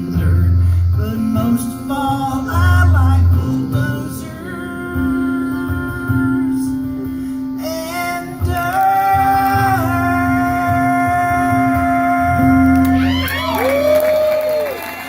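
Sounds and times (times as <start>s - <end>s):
solo guitar with held notes: 0.0s - 13.6s.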